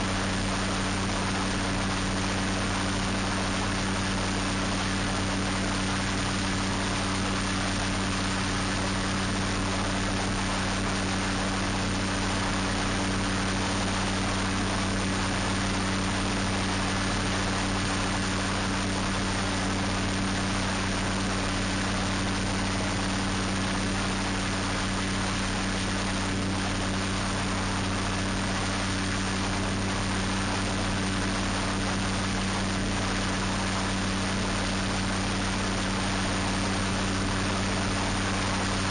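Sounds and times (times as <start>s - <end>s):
ultralight engine and propeller humming: 0.0s - 38.9s.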